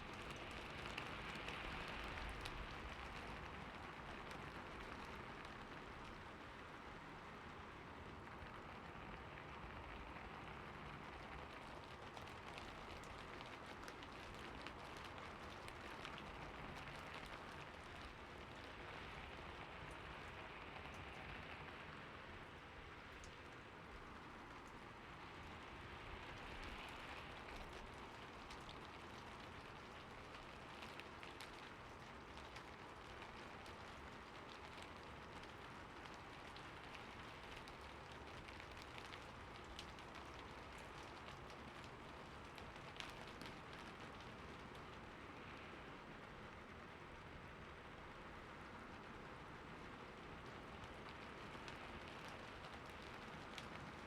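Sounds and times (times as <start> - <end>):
soft steady rain: 0.0 - 54.0.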